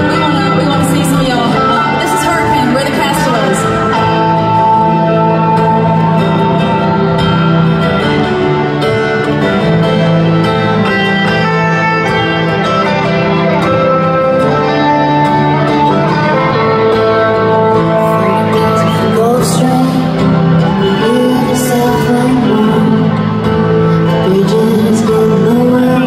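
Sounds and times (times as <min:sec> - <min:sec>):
held lead guitar notes: 0:00.0 - 0:26.0
live country band instrumental: 0:00.0 - 0:26.0
strummed guitars: 0:00.0 - 0:26.0.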